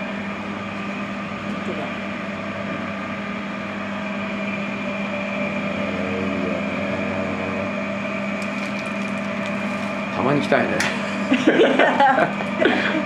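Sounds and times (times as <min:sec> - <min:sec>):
fan motor humming: 0:00.0 - 0:13.0.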